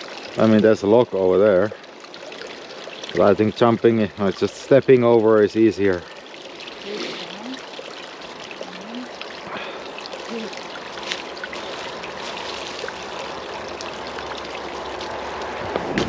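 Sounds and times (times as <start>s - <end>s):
shallow water trickling: 0.0s - 15.8s.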